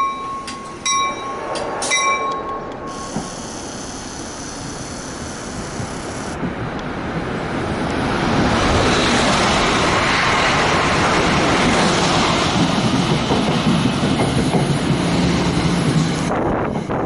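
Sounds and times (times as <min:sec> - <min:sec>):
high-speed train rushing: 0:00.0 - 0:17.0
train cars rolling past: 0:00.0 - 0:17.0.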